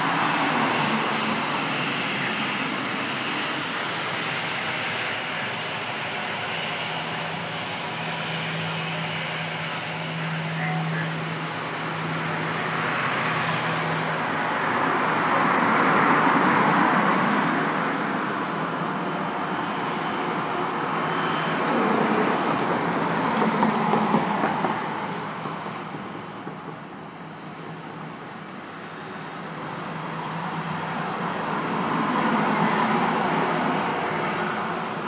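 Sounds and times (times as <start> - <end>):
jet engines rushing: 0.0 - 35.0.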